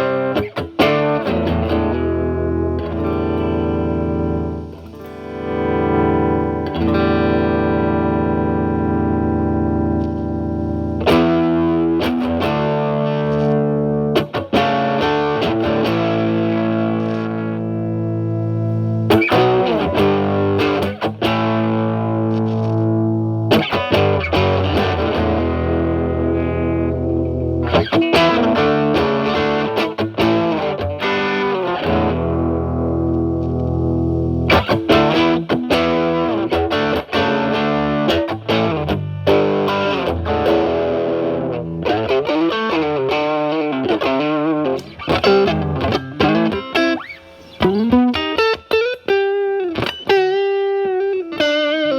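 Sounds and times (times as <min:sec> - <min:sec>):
overdriven electric guitar: 0:00.0 - 0:51.9.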